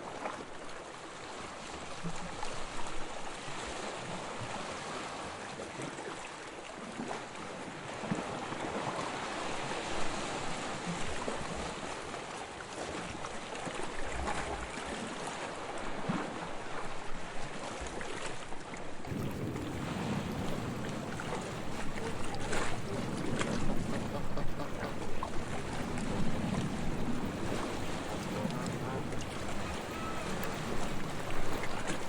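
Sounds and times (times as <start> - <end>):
sea water washing and lapping: 0.0 - 32.0.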